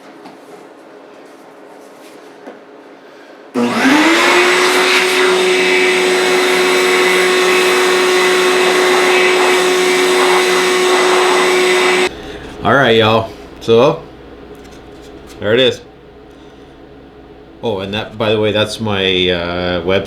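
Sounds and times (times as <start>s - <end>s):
electric sander humming: 3.6s - 20.0s.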